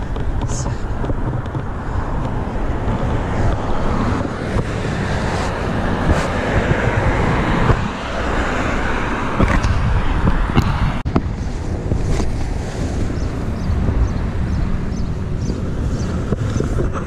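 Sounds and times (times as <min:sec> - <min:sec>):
road traffic noise: 0:00.0 - 0:17.0
wind on microphone: 0:00.0 - 0:17.0.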